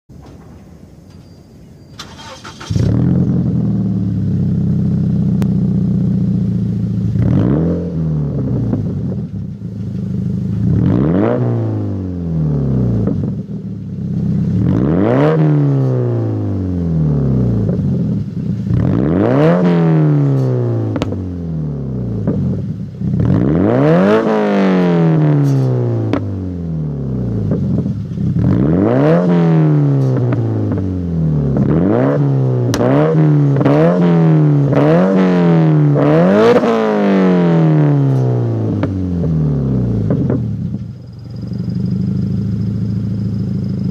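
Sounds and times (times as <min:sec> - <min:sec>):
car engine idling and revving: 0:02.0 - 0:43.9.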